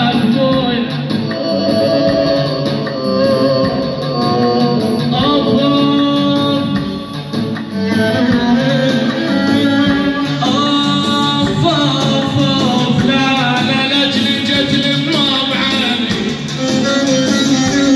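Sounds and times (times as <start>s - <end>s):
electronic keyboard accompaniment: 0.0s - 17.9s
man singing into a microphone: 0.0s - 17.9s
steady drum rhythm: 0.0s - 17.9s.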